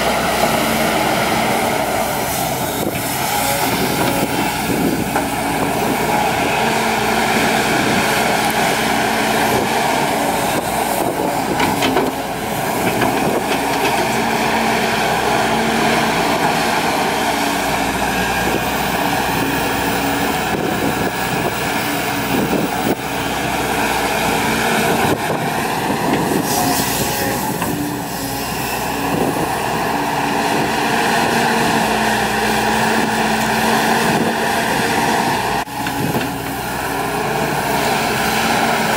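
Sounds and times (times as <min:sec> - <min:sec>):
excavator diesel engine under load: 0:00.0 - 0:38.9.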